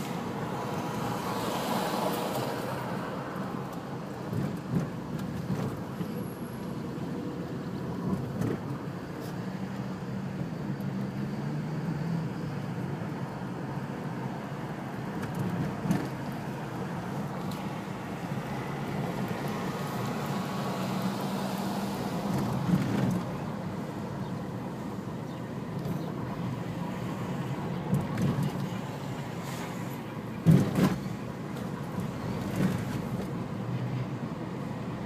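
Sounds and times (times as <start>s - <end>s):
engine and tyre hum: 0.0s - 35.0s.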